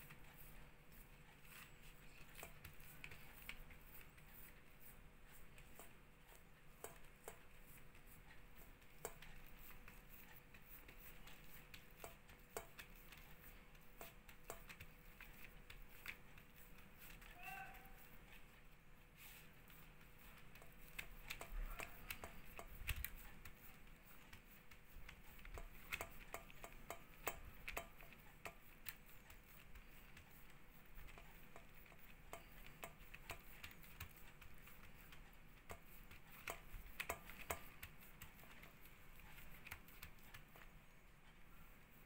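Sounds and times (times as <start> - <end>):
fingers tapping sticky dough: 0.0 - 18.8, 19.5 - 40.8.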